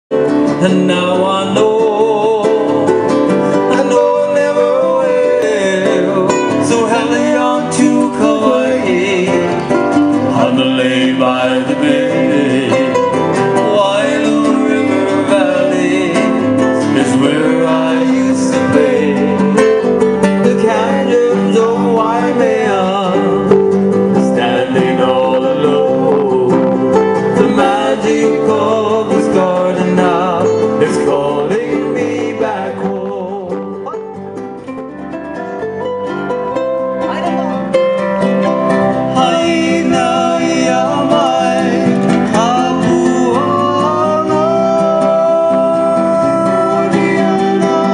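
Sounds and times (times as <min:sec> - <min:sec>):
plucked guitar strings: 0:00.1 - 0:47.9
person singing: 0:00.2 - 0:34.3, 0:35.0 - 0:47.9.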